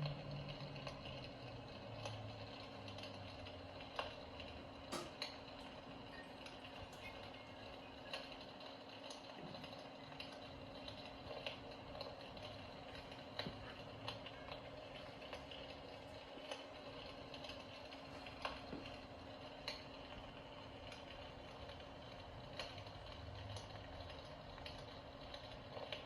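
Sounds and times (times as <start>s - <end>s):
electric fireplace hum: 0.0s - 26.0s
small clicks and crackles: 0.0s - 26.0s.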